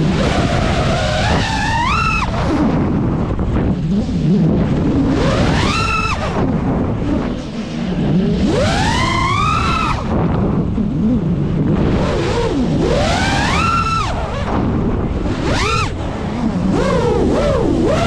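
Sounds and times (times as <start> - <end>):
drone motors whining: 0.0 - 18.0
wind on microphone: 0.0 - 18.0.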